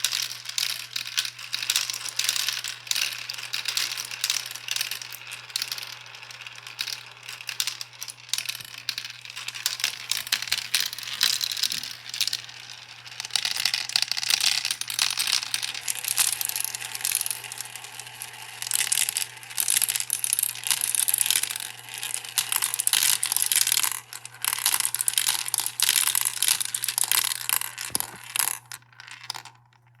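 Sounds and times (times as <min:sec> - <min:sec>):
marbles clattering along a run: 0:00.0 - 0:30.0.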